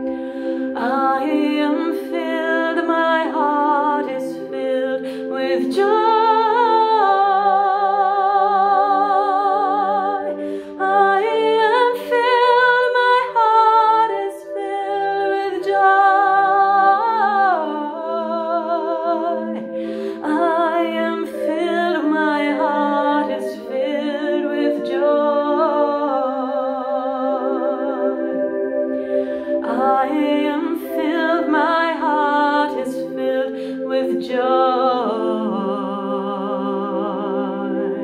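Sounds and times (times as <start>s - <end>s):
woman singing wordless vowels: 0.0s - 28.2s, 29.4s - 38.0s.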